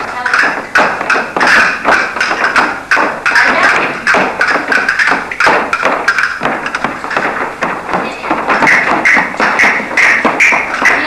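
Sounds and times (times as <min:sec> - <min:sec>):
music: 0:00.0 - 0:11.0
shoes tapping on wooden floor: 0:00.0 - 0:11.0.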